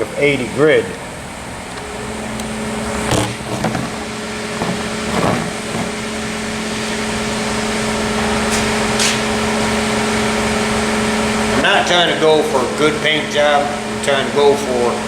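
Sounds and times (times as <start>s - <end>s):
machine motor humming: 0.0s - 15.0s.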